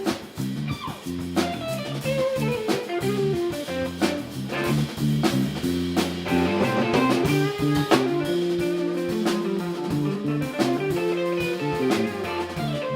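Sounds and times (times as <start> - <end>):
bass guitar: 0.0 - 12.9
drum kit beat: 0.0 - 12.9
electric guitar: 0.0 - 12.9.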